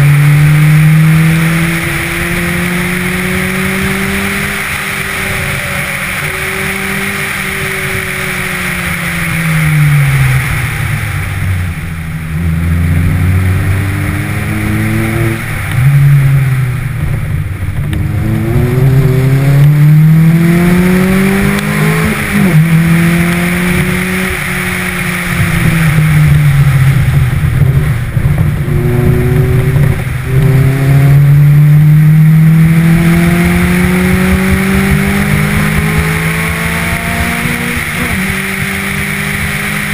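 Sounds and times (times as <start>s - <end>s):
car engine revving: 0.0s - 39.9s
wind and road rush: 0.0s - 39.9s.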